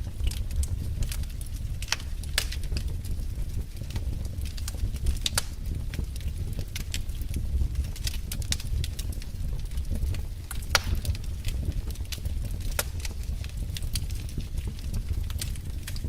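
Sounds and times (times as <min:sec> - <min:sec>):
flames rumbling: 0:00.0 - 0:16.0
wood fire crackling: 0:00.0 - 0:16.0.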